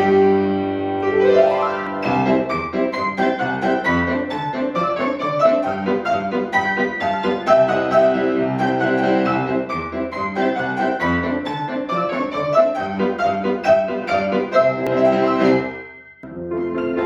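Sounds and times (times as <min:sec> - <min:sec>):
piano duet: 0:00.0 - 0:17.0.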